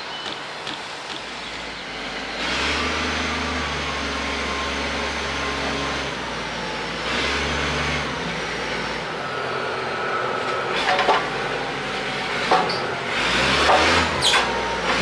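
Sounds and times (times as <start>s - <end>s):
log loader engine revving: 1.2s - 15.0s.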